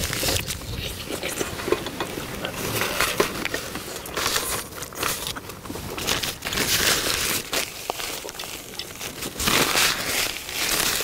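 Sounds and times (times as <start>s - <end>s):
people chewing and smacking: 0.0s - 11.0s.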